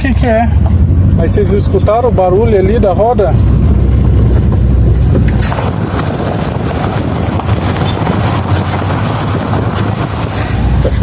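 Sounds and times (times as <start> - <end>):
loud noise from a wheel: 0.0 - 11.0
van driving: 0.0 - 11.0.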